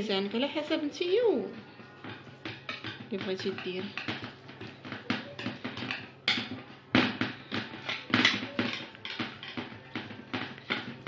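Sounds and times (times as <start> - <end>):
whisk tapping and scraping bowl: 1.4 - 11.0.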